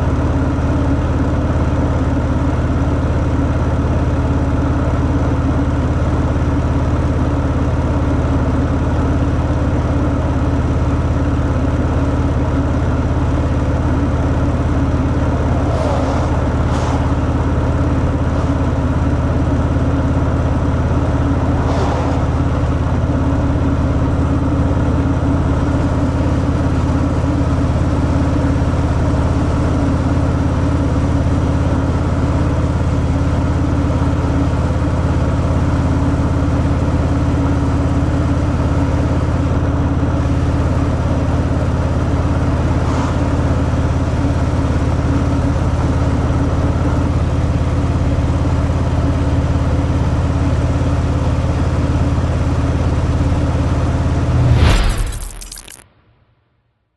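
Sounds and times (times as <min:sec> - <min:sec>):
motorcycle engine running steadily: 0:00.0 - 0:15.7, 0:17.0 - 0:21.6, 0:22.3 - 0:54.4.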